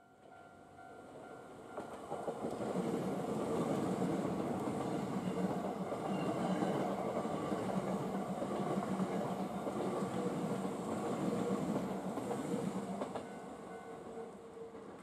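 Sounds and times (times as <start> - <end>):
electric train passing: 0.2 - 15.0
train wheels on rails: 1.7 - 13.8.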